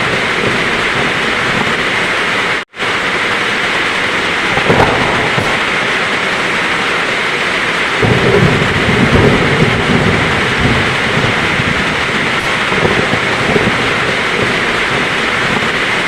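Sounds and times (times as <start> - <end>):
heavy rain: 0.0 - 16.0
low thunder rumbling: 0.0 - 16.0.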